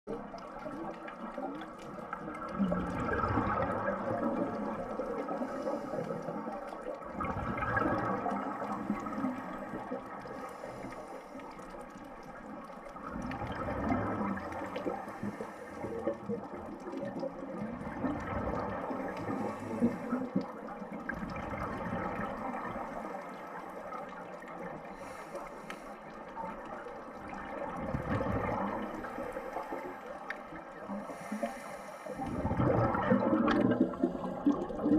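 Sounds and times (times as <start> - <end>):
underwater bubbles gurgling: 0.0 - 34.9.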